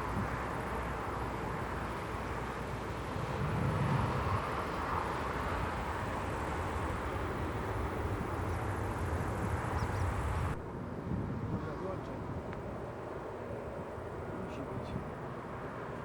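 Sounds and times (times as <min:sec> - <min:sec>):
distant engines rumbling: 0:00.0 - 0:16.0.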